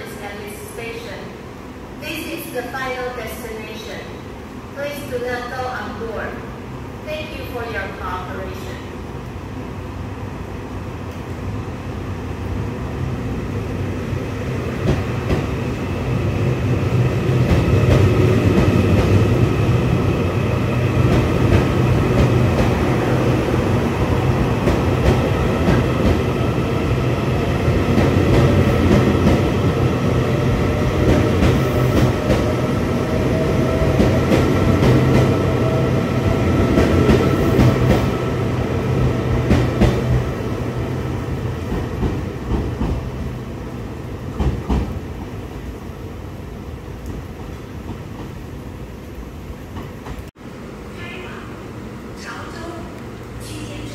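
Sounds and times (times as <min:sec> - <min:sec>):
train rumbling on rails: 0:08.6 - 0:53.9.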